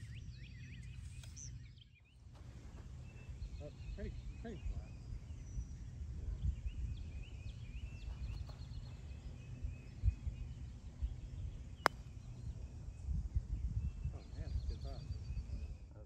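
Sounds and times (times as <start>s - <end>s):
birds chirping: 0.0s - 15.6s
wind rumble on microphone: 2.4s - 16.0s.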